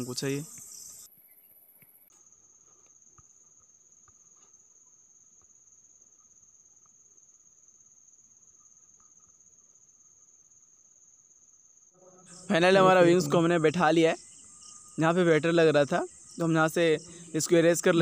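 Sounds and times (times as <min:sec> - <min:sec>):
faint high-pitched whine: 0:00.0 - 0:18.0.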